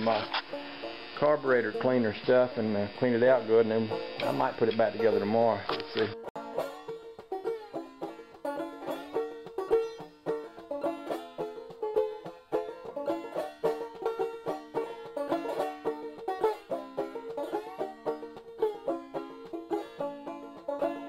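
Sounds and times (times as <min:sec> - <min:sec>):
bluegrass banjo music: 0:00.0 - 0:21.0.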